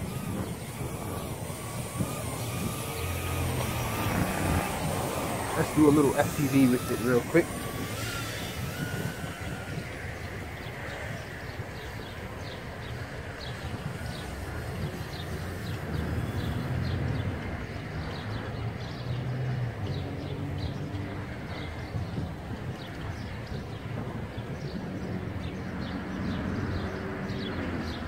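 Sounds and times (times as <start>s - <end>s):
quadcopter motors droning: 0.0s - 28.0s.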